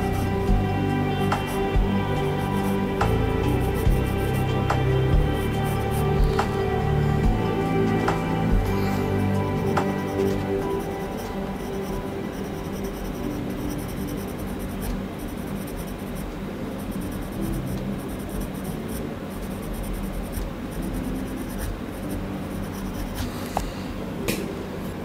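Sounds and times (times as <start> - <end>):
pencil scratching on paper: 0.0 - 23.8.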